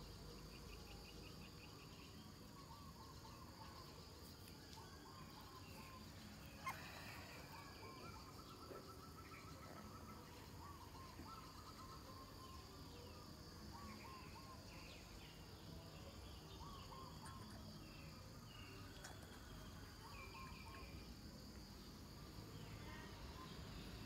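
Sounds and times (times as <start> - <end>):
distant birds chirping: 0.0 - 24.0.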